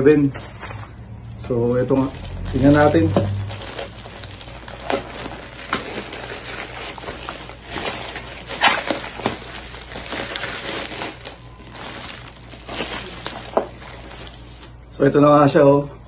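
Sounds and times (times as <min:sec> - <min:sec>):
plastic bag and bubble wrap crinkling: 0:00.0 - 0:15.8.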